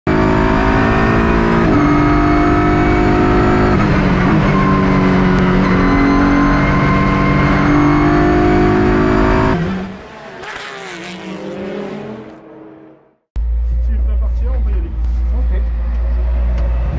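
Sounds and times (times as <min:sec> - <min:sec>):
racing car engine with gear changes: 0:00.1 - 0:16.9.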